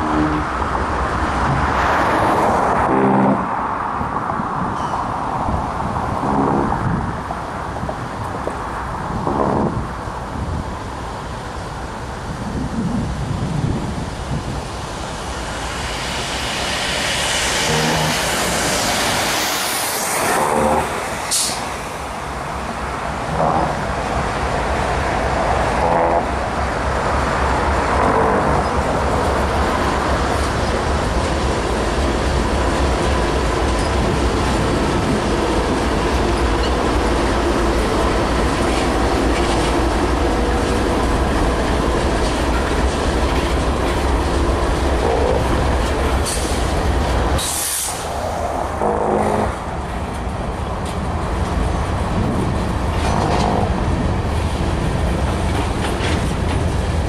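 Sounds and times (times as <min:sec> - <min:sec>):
diesel locomotives passing: 0:00.0 - 0:57.0
train wheels rumbling on rails: 0:00.0 - 0:57.0.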